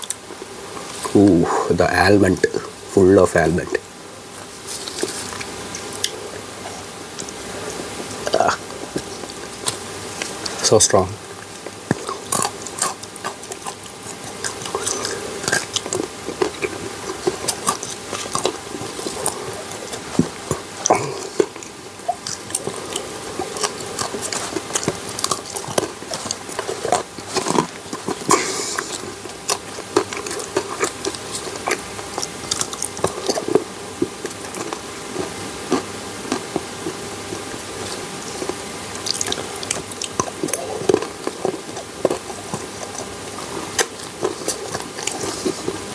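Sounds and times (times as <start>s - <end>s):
faint steady hum: 0.0s - 45.9s
chewing chocolate mouth sounds: 4.4s - 45.9s.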